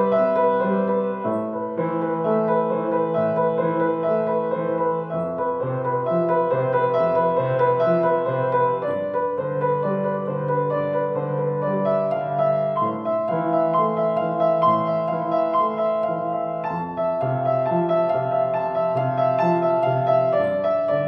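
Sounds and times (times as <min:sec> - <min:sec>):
solo piano melody: 0:00.0 - 0:21.0.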